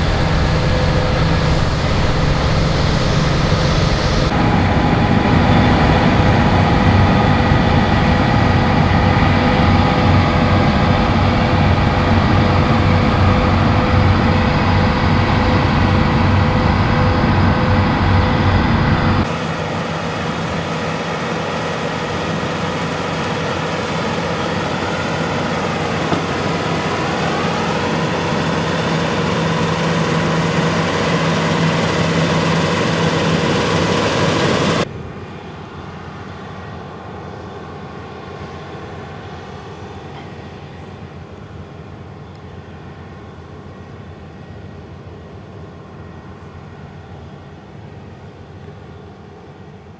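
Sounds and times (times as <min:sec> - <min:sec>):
combine harvester running: 0:00.0 - 0:49.9.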